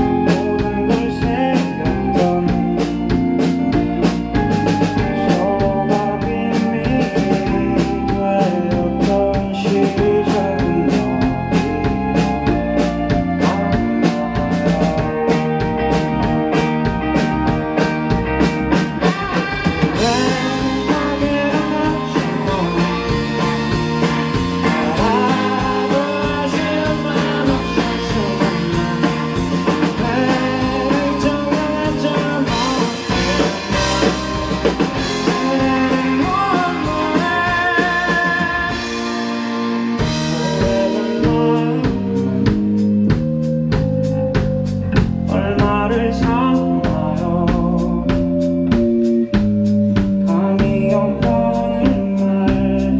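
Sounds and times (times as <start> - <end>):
person singing: 0.0 - 15.8, 19.0 - 43.0, 45.2 - 48.4, 50.2 - 52.9
drum kit beat: 0.0 - 52.9
live rock band playing: 0.0 - 52.9.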